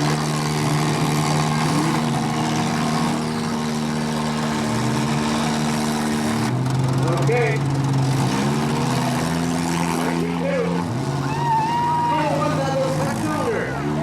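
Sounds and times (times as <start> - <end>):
car engine revving: 0.0 - 14.0
car engines running: 0.0 - 14.0.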